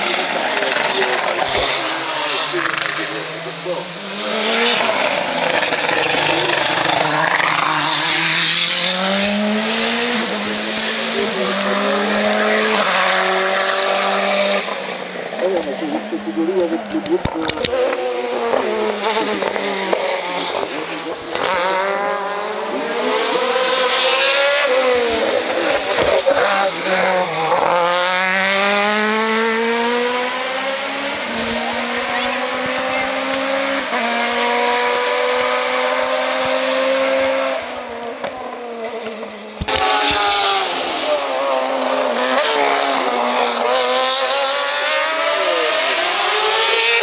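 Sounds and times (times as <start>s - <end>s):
race car engine revving: 0.0s - 47.0s.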